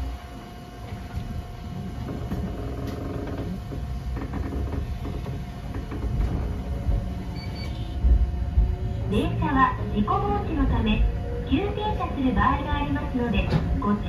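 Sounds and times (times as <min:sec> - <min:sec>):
steady hum: 0:00.0 - 0:14.0
train wheels rumbling on rail: 0:00.0 - 0:14.0.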